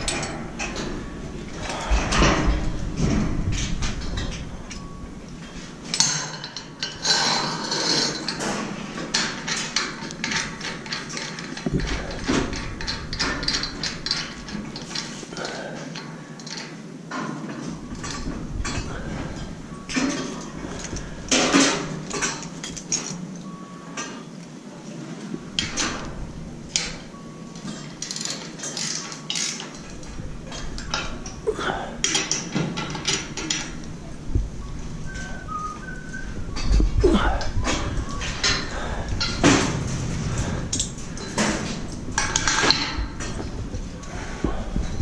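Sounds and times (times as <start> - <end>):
steel tubes clanking together: 0.0 - 24.3, 25.6 - 45.0.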